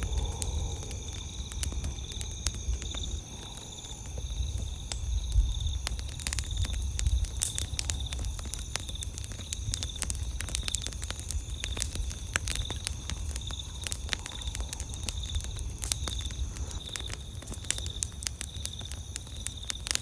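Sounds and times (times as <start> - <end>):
campfire crackling and popping: 0.0 - 20.0
night insects chirring: 0.0 - 20.0.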